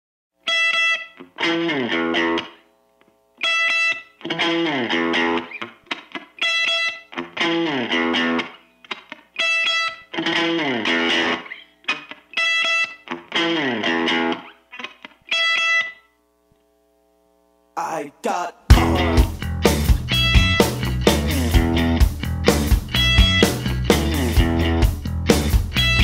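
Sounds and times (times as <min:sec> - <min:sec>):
electric guitar riff: 0:00.4 - 0:26.0.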